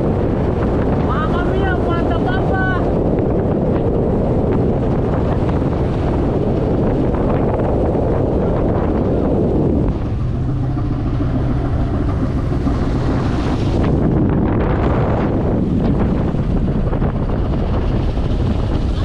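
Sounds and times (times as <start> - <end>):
boat engine drone: 0.0 - 19.0
sea wash along hull: 0.0 - 19.0
wind buffeting microphone: 0.0 - 19.0.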